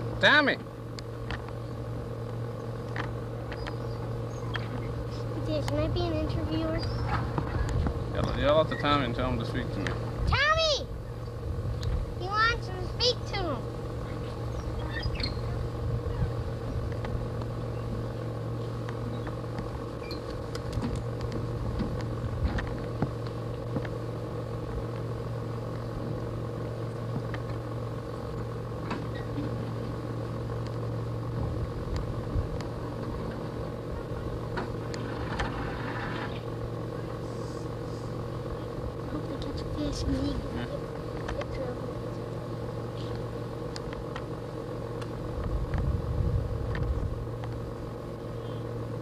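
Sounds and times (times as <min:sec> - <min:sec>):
steady multi-pitch hum: 0:00.0 - 0:49.0.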